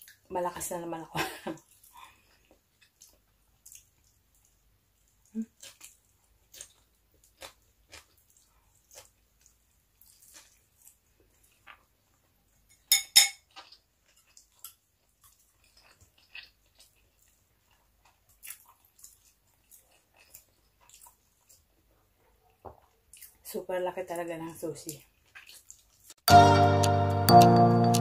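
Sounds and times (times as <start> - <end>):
chewing food: 1.5 - 28.0.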